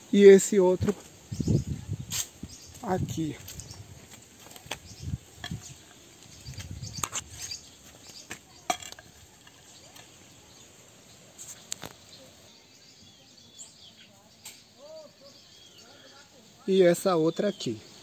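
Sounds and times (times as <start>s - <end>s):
bird chirp: 0.0s - 18.0s
outdoor ambience: 0.0s - 18.0s.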